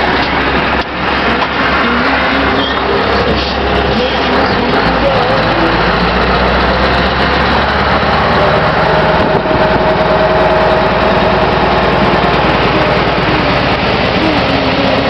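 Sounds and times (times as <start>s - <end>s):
road noise: 0.0s - 15.0s
truck diesel engine running: 0.0s - 15.0s.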